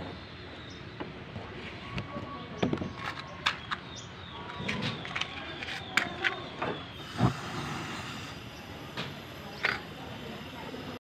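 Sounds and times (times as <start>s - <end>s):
outdoor background: 0.0s - 11.0s.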